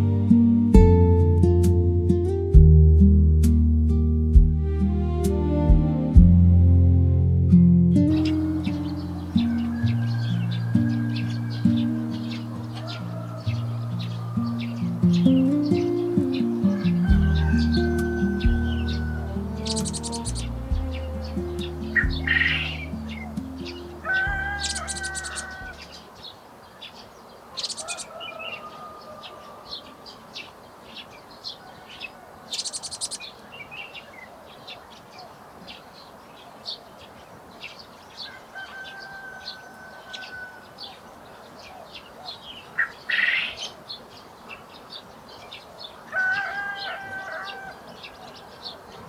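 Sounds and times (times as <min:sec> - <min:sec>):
songbirds chirping: 0:08.0 - 0:49.0.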